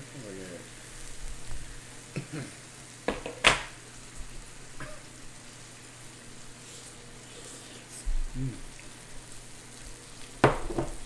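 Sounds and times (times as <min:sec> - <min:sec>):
meat sizzling on a grill plate: 0:00.0 - 0:11.0.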